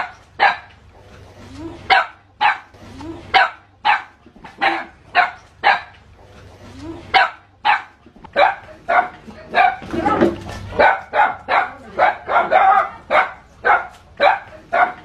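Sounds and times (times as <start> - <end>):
dog barking aggressively: 0.0 - 0.8, 1.9 - 2.7, 3.3 - 6.0, 7.1 - 15.0.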